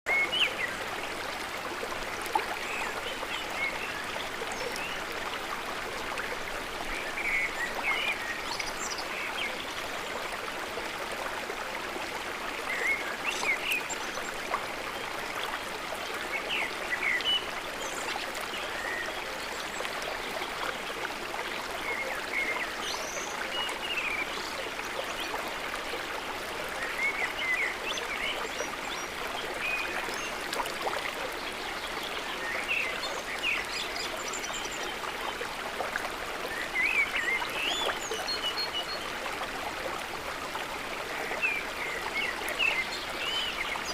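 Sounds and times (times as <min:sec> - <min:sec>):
running water: 0:00.1 - 0:43.9.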